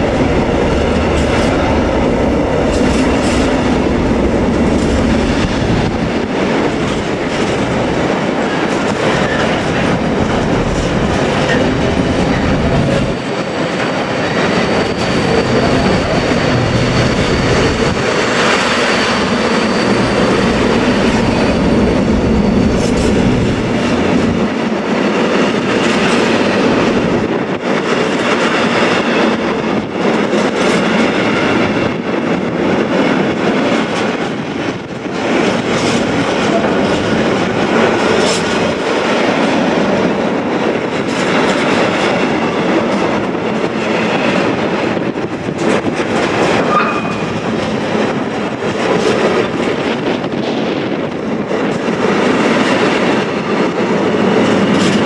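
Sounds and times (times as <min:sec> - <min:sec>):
freight train passing: 0:00.0 - 0:55.0.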